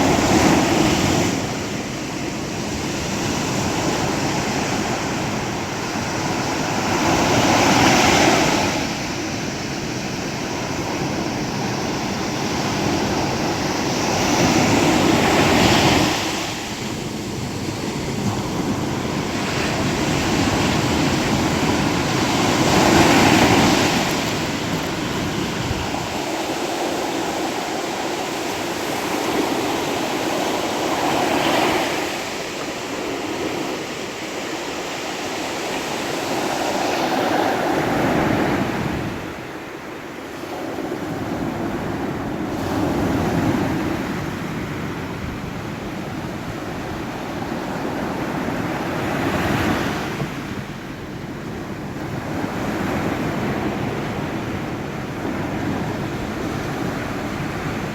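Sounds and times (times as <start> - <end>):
sea waves breaking: 0.0 - 57.9
steady wash of water: 0.0 - 57.9.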